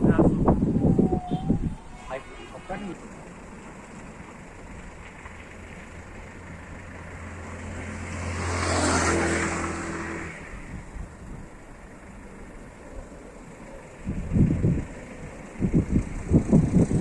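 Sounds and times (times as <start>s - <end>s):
vehicle driving past: 0.8s - 17.0s.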